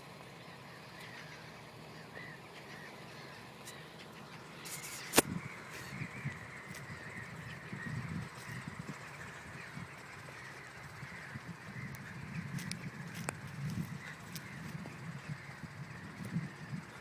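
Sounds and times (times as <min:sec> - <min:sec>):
faint birds calling: 0:00.0 - 0:17.0.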